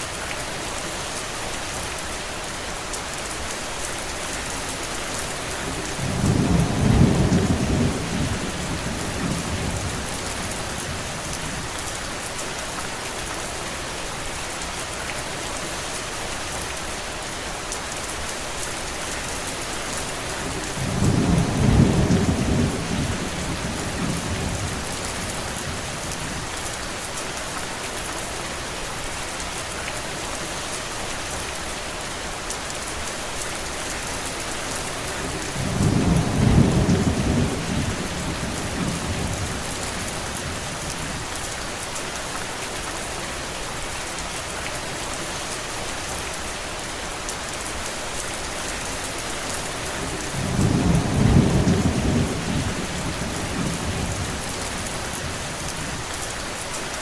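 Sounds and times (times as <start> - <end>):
rain hissing and pattering: 0.0 - 57.0.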